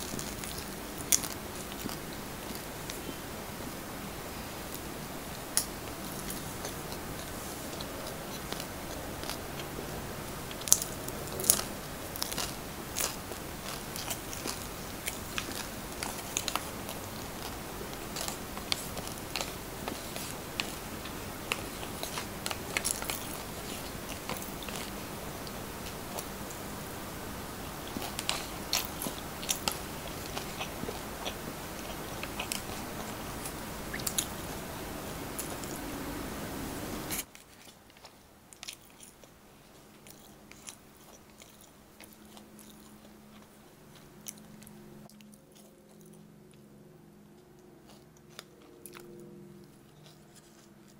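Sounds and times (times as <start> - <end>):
person chewing: 0.0 - 3.3, 4.7 - 36.0, 37.0 - 50.9.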